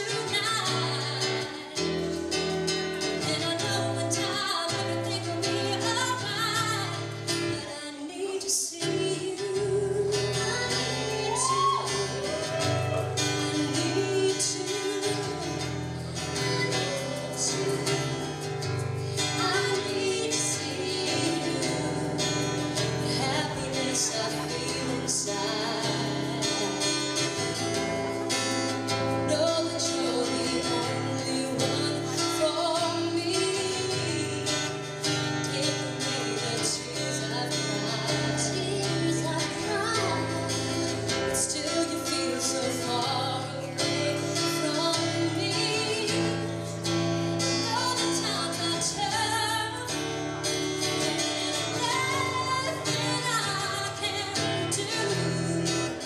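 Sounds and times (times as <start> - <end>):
strummed acoustic guitar: 0.0 - 56.0
woman singing: 0.0 - 56.0.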